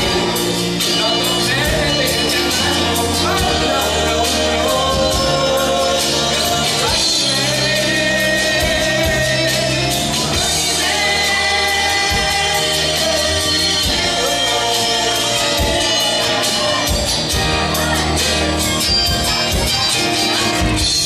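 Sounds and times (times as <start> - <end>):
music with singing voice: 0.0 - 21.0.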